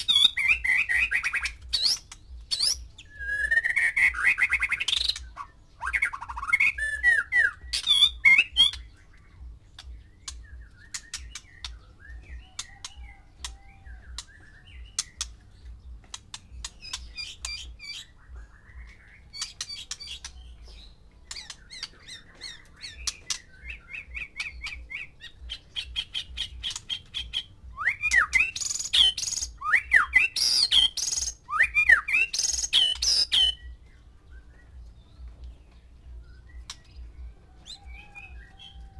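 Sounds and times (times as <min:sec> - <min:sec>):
bird whistled song: 0:00.0 - 0:38.9.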